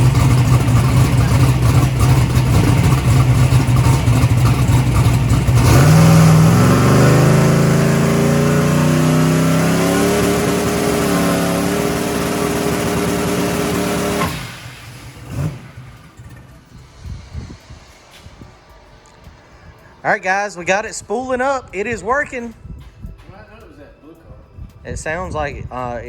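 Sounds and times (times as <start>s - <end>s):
turbocharged engine revving: 0.0s - 21.1s.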